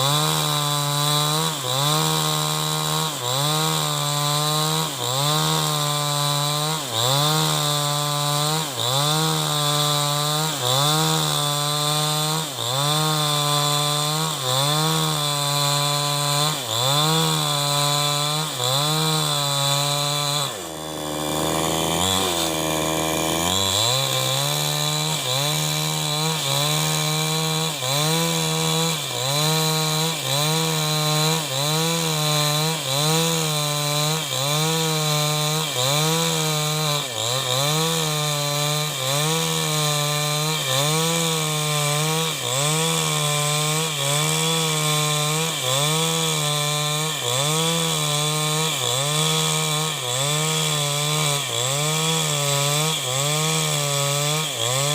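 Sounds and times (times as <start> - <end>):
chainsaw ripping wood: 0.0 - 54.9.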